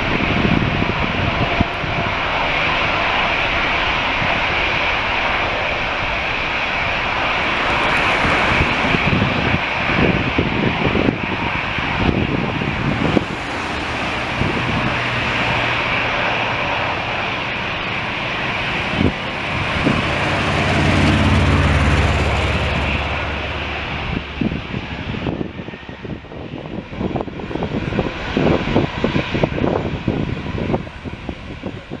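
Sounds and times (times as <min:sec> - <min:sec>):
jet airliner roar at takeoff: 0:00.0 - 0:32.0.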